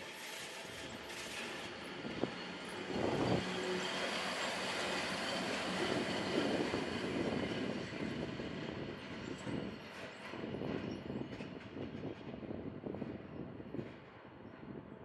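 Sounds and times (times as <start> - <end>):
train wheels running over rails: 0.0 - 15.0.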